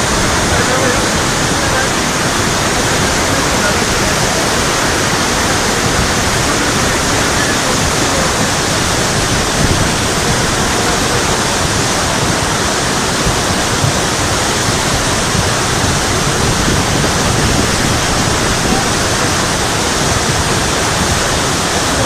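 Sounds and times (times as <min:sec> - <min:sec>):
flood water rushing: 0:00.0 - 0:22.0.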